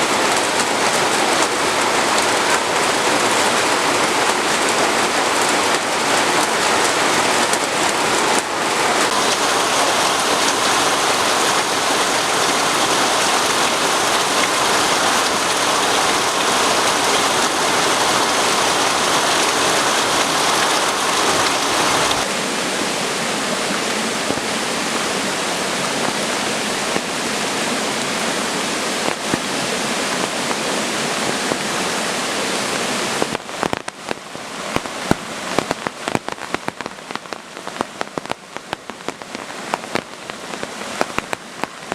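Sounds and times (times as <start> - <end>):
rain falling: 0.0 - 41.9
raindrops splashing: 0.0 - 41.9.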